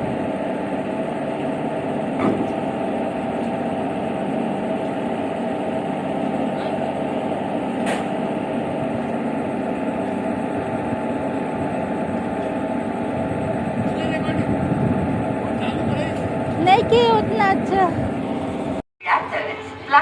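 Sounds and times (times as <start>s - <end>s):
locomotive engine drone: 0.0s - 20.0s.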